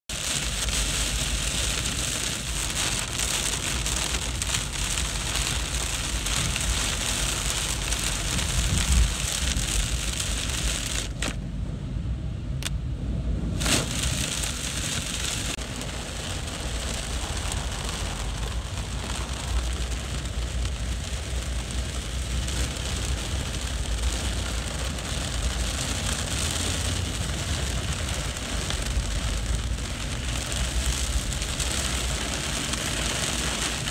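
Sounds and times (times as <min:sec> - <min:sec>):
traffic rumble on wet road: 0:00.0 - 0:33.9
heavy rain hissing: 0:00.1 - 0:11.2, 0:13.4 - 0:33.9.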